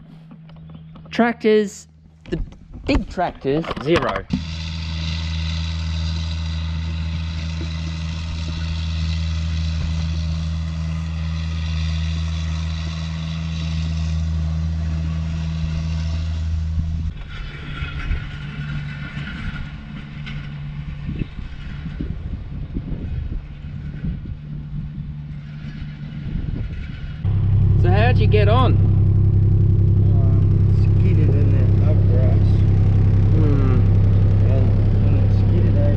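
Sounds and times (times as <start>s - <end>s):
engine knocks: 0.0s - 1.3s, 1.9s - 35.9s
rough engine rumble: 0.0s - 35.9s
vehicle engine humming: 0.0s - 35.9s.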